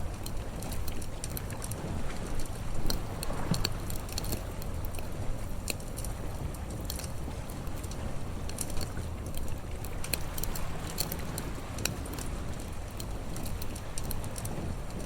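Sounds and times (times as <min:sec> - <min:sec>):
campfire crackling and popping: 0:00.0 - 0:15.0
sea waves rumbling: 0:00.0 - 0:15.0.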